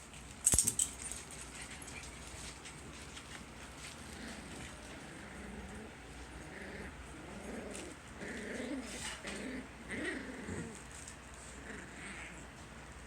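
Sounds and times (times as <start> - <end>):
puppies whimpering and grunting: 1.4 - 12.7.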